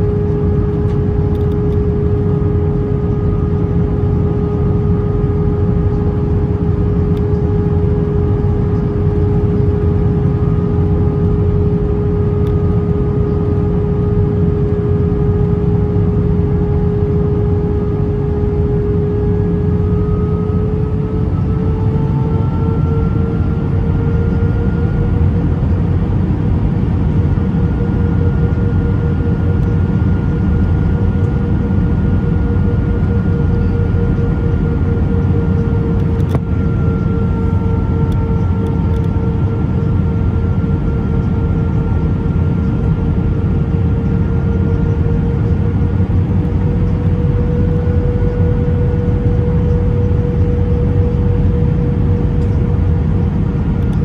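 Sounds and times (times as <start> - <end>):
aircraft cabin engine rumble: 0.0 - 54.0
constant hum: 0.0 - 54.0.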